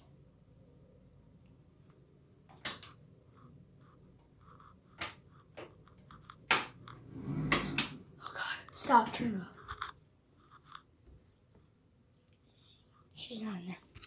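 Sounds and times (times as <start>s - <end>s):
room hum: 0.0s - 14.0s.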